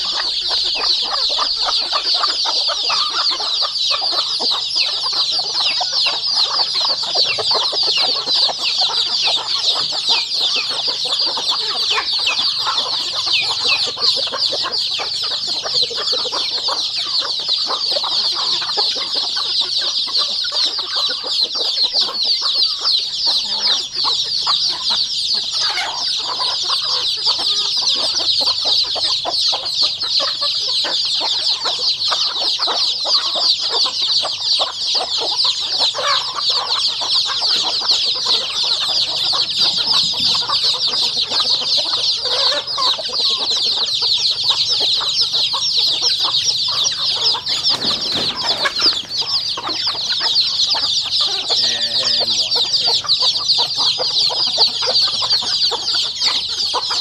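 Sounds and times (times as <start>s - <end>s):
chickens clucking: 0.0s - 57.0s
chickens peeping: 0.0s - 57.0s.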